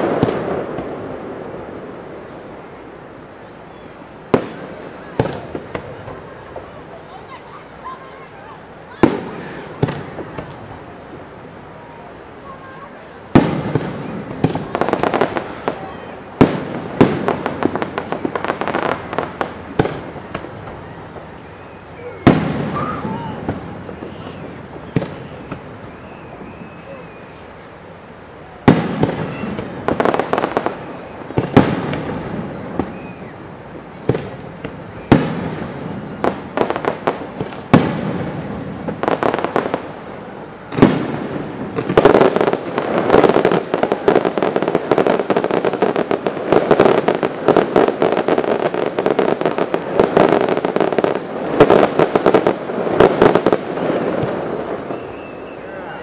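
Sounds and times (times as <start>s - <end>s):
firework bangs and crackles: 0.0s - 56.0s.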